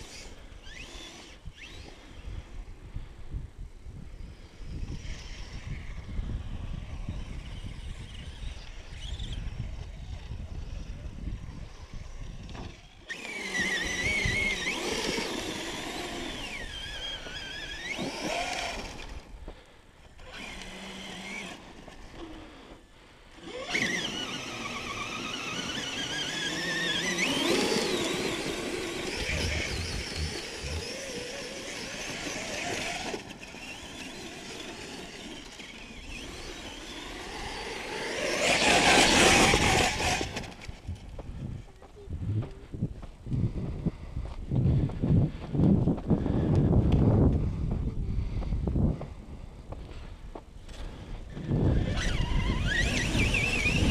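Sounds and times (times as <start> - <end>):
electric motors whining: 0.0 - 2.5, 4.2 - 42.5, 50.7 - 53.9.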